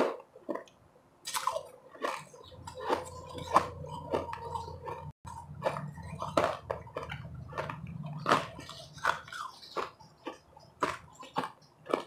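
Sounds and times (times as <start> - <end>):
chewing crunchy ice: 0.0 - 12.0.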